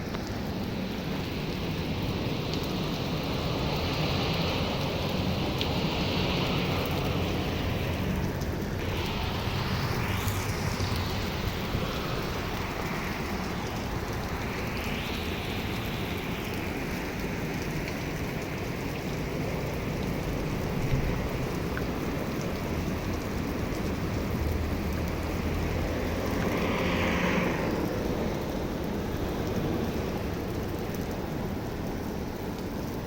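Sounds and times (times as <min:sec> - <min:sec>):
steady rain: 0:00.0 - 0:33.0
tyres hissing on wet road: 0:00.0 - 0:33.0.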